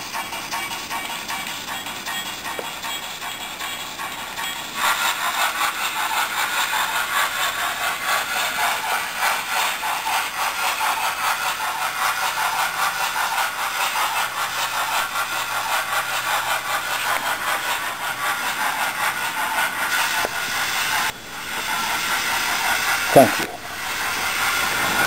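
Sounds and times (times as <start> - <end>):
model steam locomotive chuffing: 0.0 - 25.0.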